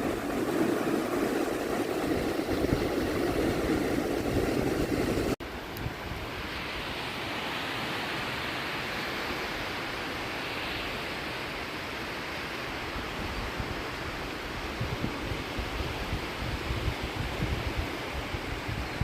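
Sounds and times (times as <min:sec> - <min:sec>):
ocean surf rushing: 0:00.0 - 0:17.0
wind: 0:00.0 - 0:19.0.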